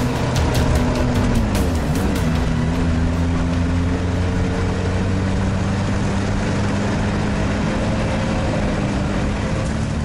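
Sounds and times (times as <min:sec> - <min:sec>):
all-terrain vehicle engine running: 0:00.0 - 0:10.0.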